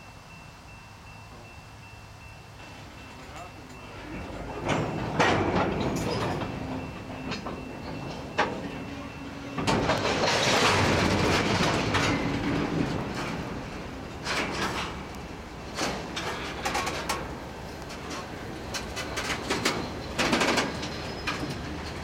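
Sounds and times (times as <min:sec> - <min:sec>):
locomotive engine drone: 0:00.0 - 0:22.0
wheels rumbling and squealing on rails: 0:00.0 - 0:22.0.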